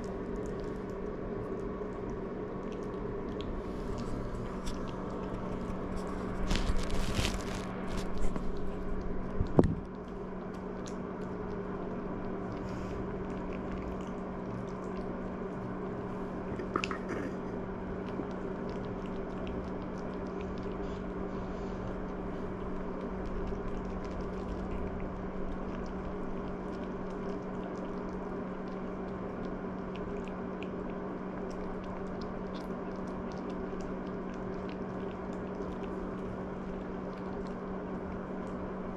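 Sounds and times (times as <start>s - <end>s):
puppy crunching dry kibble: 0.0s - 38.6s
low hum: 0.0s - 38.9s.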